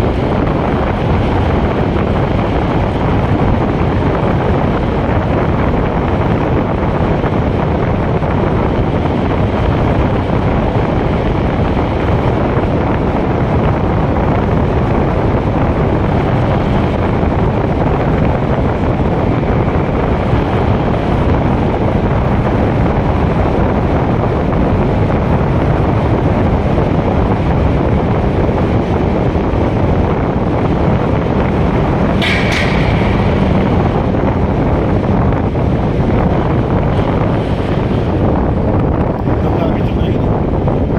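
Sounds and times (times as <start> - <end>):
car driving noise: 0.0 - 40.9
wind buffeting microphone: 0.0 - 40.9.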